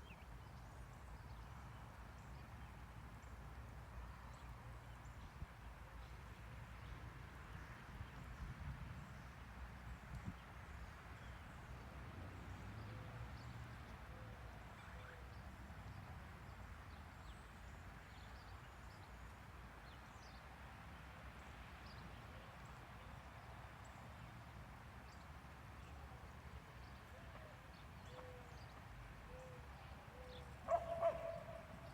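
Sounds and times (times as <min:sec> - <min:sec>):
low background noise: 0:00.0 - 0:31.9.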